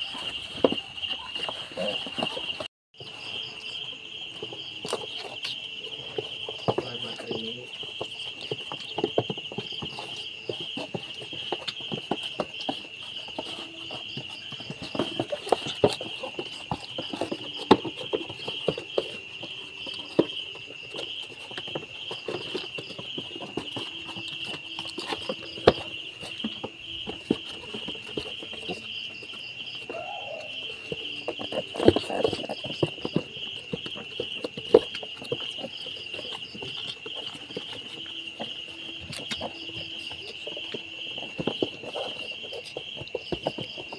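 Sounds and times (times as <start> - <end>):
crickets chirping: 0.0 - 43.9.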